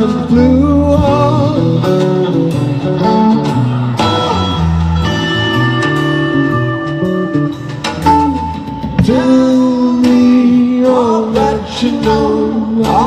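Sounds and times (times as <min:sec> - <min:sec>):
guitar lines with held notes: 0:00.0 - 0:13.0
moving bass line: 0:00.0 - 0:13.0.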